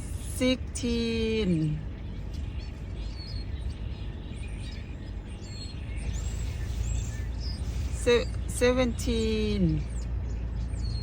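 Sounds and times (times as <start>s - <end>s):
high bird chirps: 0.0s - 11.0s
outdoor rumble and hiss: 0.0s - 11.0s.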